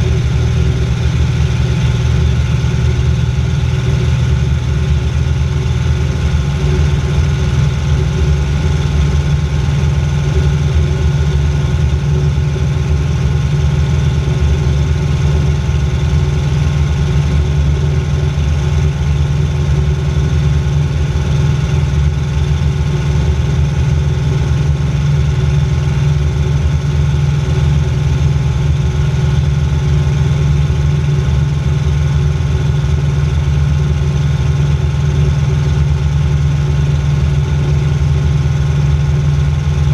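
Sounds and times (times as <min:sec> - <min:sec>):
plane engine and propeller droning: 0:00.0 - 0:39.9.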